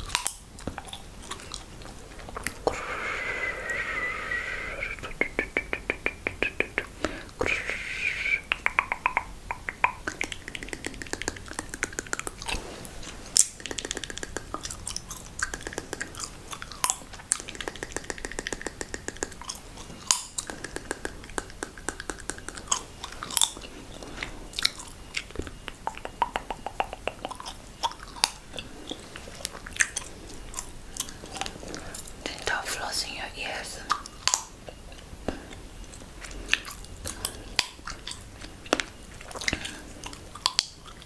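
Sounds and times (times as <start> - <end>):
wet mouth clicks and smacks: 0.0 - 32.6, 33.9 - 41.0.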